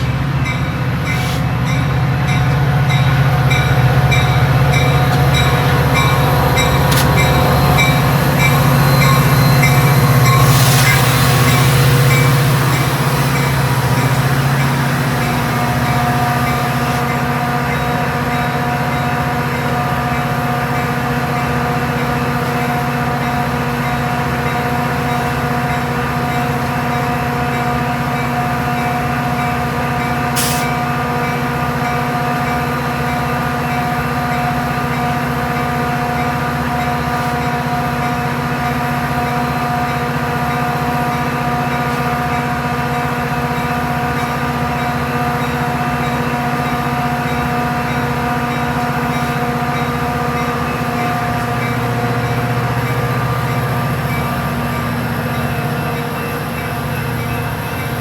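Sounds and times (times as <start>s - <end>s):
diesel locomotive droning: 0.0s - 58.0s.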